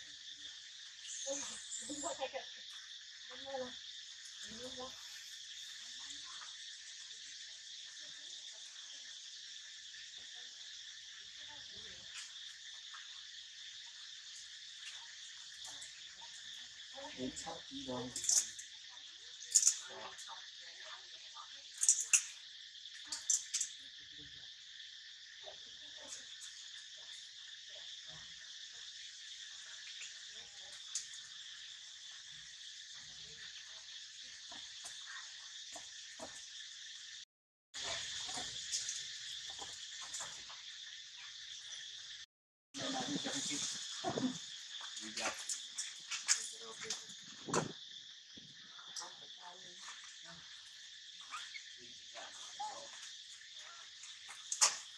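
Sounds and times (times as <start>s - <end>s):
insect chorus buzzing: 0.0s - 54.9s.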